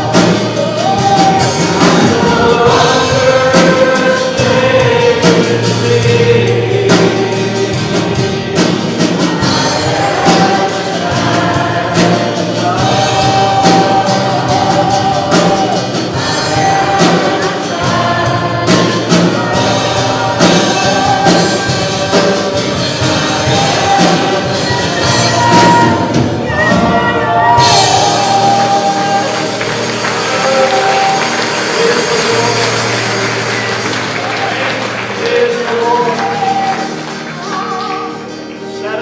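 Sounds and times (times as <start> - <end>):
percussion and tambourine beat: 0.0 - 26.8, 27.6 - 38.3
congregation and band singing gospel: 0.0 - 39.0.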